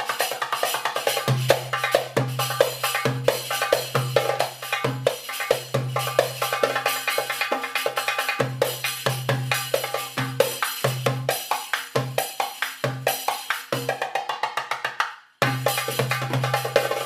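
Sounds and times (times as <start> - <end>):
percussion-led background music: 0.0 - 17.0.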